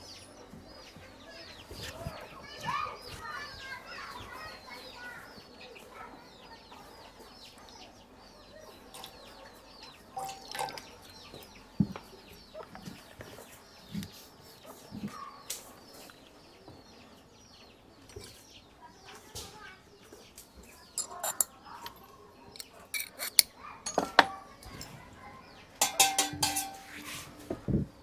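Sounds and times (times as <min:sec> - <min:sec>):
birds chirping: 0:00.0 - 0:27.5.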